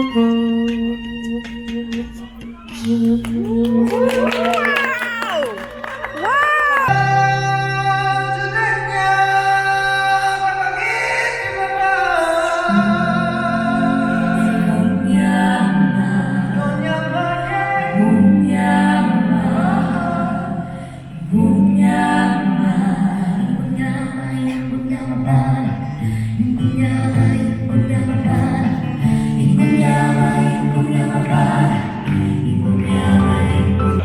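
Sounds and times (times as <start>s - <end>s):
voices singing in harmony: 0.0s - 34.0s.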